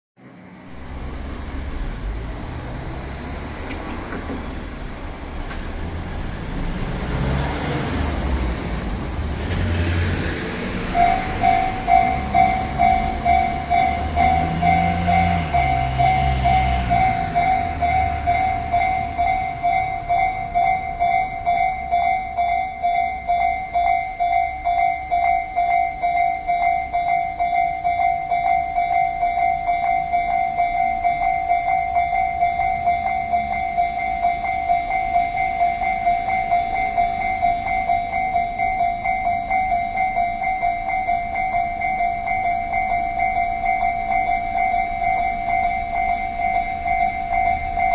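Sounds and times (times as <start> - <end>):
road vehicle rumbling past: 0.2 - 47.9
level crossing warning bell: 4.6 - 47.9.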